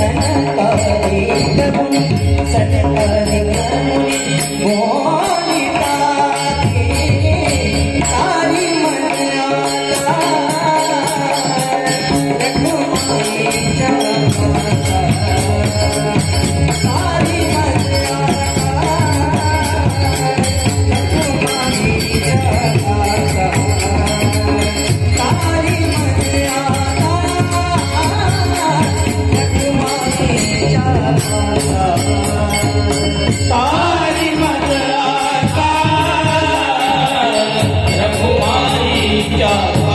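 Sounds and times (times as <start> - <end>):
drum keeping steady beat: 0.0 - 39.9
man singing devotional melody: 0.0 - 39.9.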